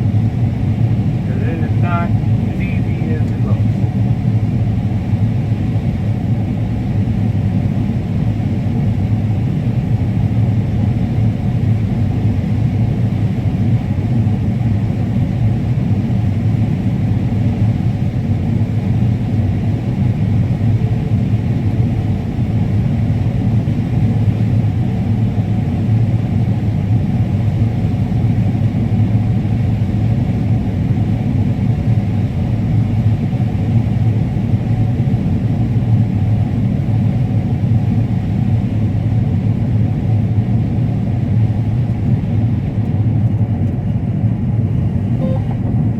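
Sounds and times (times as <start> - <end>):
combine harvester drone: 0.0 - 45.9.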